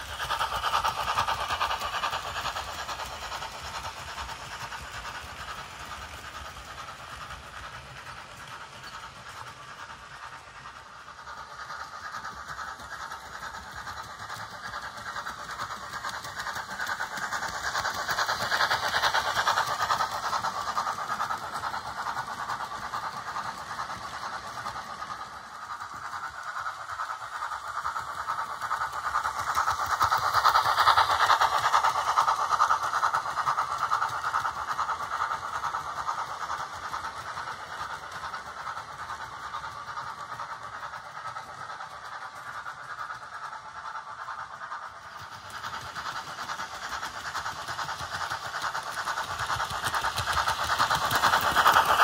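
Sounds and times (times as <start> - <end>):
model train wheels clattering: 0.0 - 52.0.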